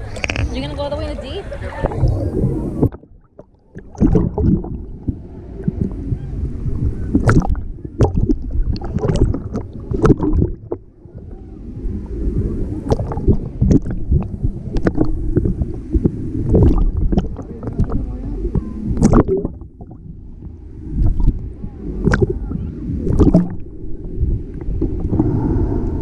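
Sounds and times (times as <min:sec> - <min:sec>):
muffled water sloshing and splashing: 0:00.0 - 0:26.0.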